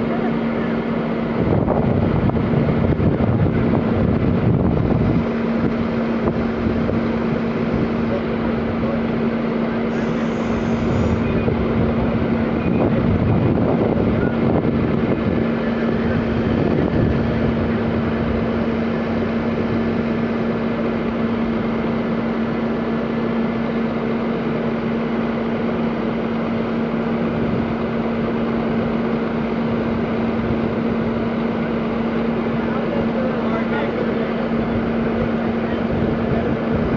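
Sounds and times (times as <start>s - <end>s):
fire engine engine humming: 0.0s - 36.9s.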